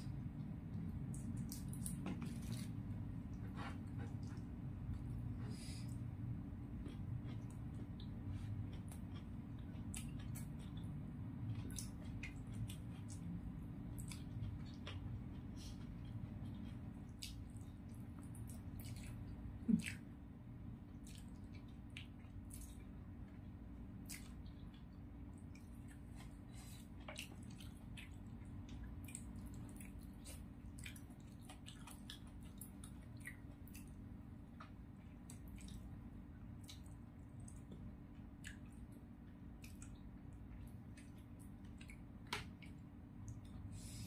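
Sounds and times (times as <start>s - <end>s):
wet chewing and lip smacks: 6.7s - 20.1s, 21.0s - 43.7s.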